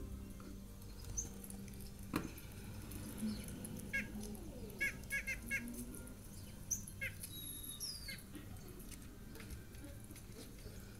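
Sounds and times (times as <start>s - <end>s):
recorded birdsong chirps: 0.0s - 10.9s.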